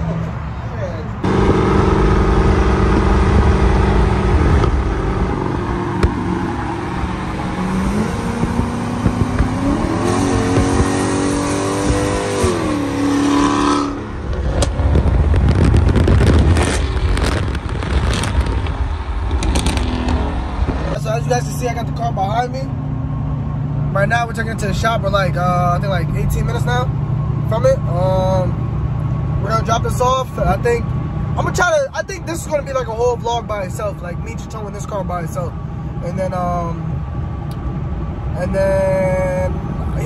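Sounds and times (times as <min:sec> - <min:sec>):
road and wind noise: 0:00.0 - 0:40.0
vehicle engine accelerating: 0:01.2 - 0:40.0.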